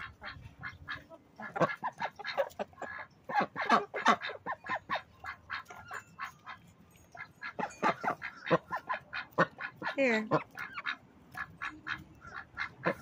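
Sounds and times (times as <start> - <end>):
chickens clucking: 0.0 - 13.0
ducks quacking: 0.0 - 13.0.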